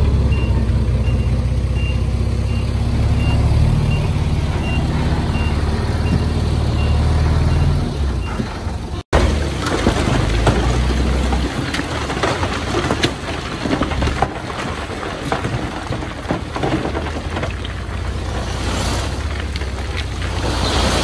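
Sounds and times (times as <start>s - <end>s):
bulldozer engine drone: 0.0s - 21.0s
knocks and clanks: 3.9s - 21.0s.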